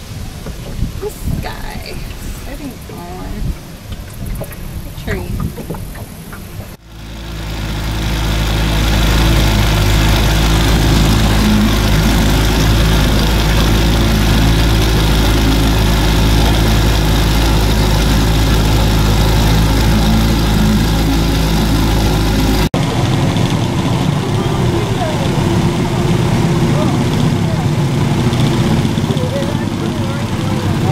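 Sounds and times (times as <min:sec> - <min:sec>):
boat engine droning: 0:00.0 - 0:30.9.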